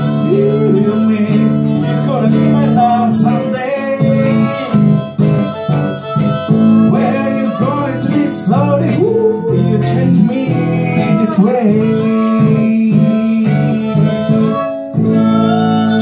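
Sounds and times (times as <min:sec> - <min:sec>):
electric guitar chords: 0:00.0 - 0:16.0
fiddle: 0:00.0 - 0:16.0
sliding lead guitar line: 0:00.0 - 0:16.0.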